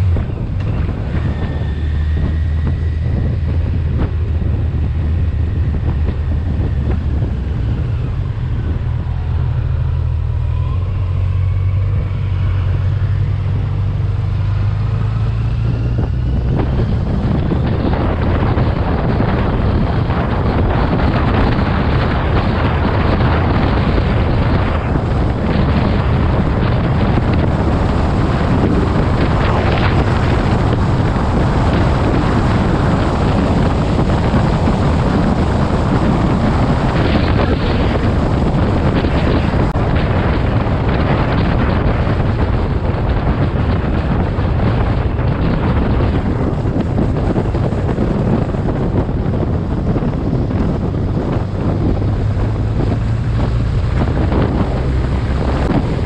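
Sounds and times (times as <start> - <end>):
motorcycle engine drone: 0.0 - 56.0
wind buffeting microphone: 0.0 - 56.0.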